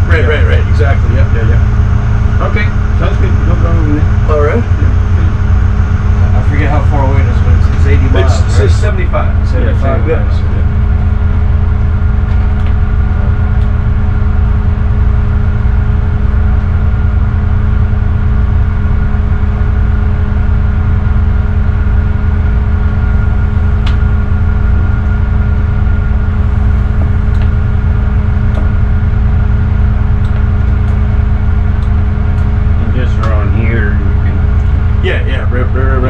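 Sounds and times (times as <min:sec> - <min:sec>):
diesel engine drone: 0:00.0 - 0:36.0
high engine whine: 0:00.0 - 0:36.0.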